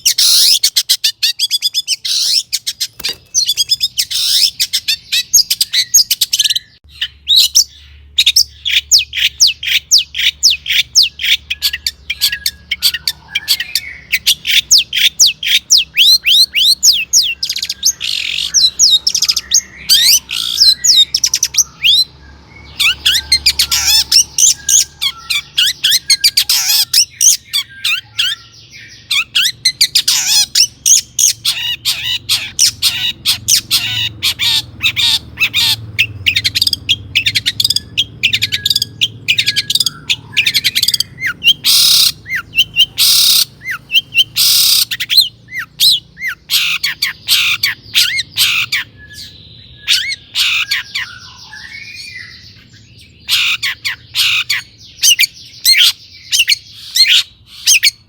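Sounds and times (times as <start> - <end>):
bird singing sharp high chirps: 0.0 - 58.0.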